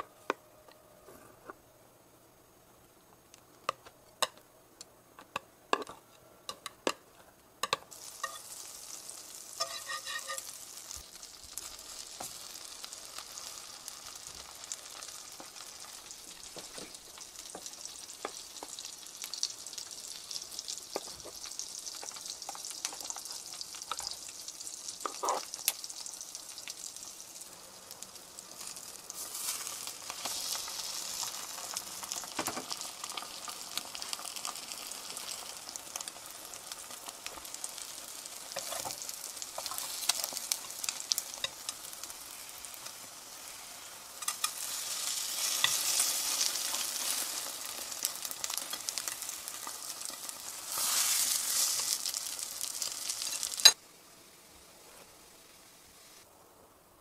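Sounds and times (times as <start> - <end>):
bread frying in a pan: 5.9 - 56.3.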